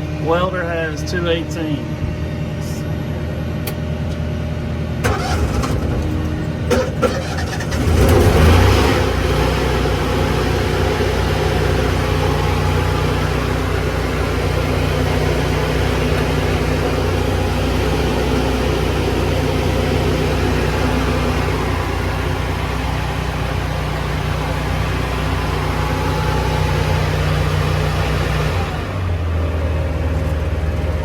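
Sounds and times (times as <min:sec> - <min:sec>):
welder engine cranking and running: 0:05.0 - 0:31.0.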